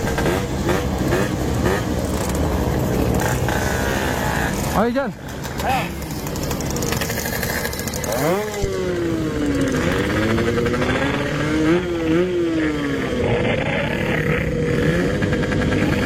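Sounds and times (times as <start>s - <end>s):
two-stroke motorcycle engine revving: 0.0s - 5.0s, 5.8s - 16.0s.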